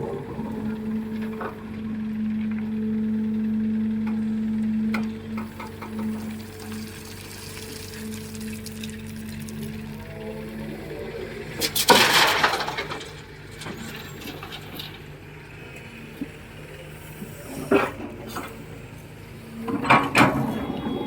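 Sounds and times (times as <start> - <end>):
diesel engine running: 0.0 - 21.0
excavator load clattering: 0.0 - 21.0.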